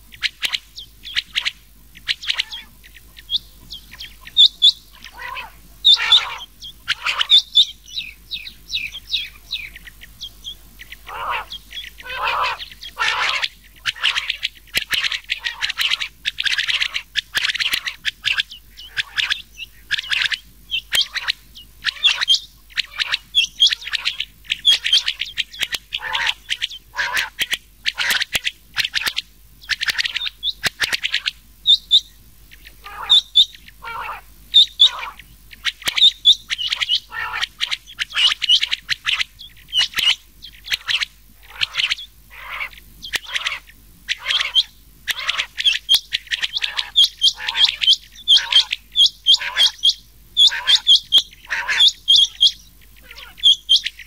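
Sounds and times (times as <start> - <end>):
quail calls: 0.0 - 54.0.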